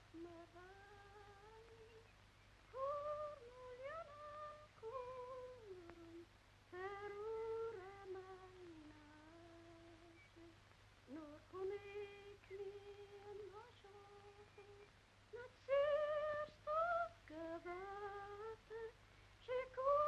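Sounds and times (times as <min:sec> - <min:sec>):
person humming a slow tune: 0:00.0 - 0:02.1, 0:02.8 - 0:20.0.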